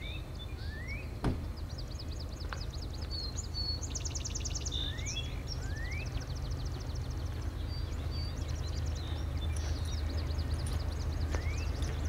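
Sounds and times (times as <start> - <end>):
diesel locomotives rumbling: 0.0 - 12.0
songbirds trilling: 0.0 - 12.0.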